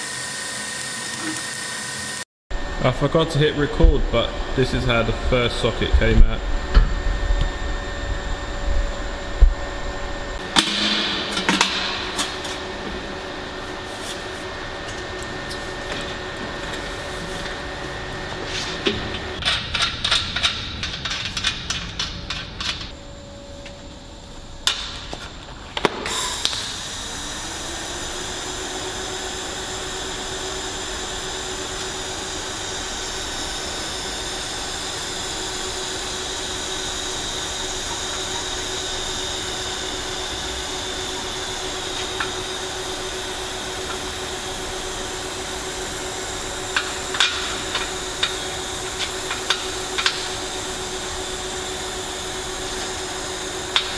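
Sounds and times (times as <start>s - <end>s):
welding arc hissing and humming: 0.0s - 53.9s.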